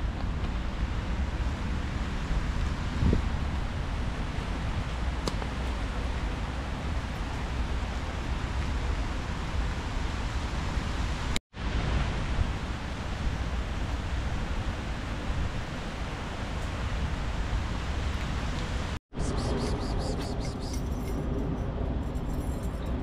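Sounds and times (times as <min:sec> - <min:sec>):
rushing outdoor background noise: 0:00.0 - 0:23.0.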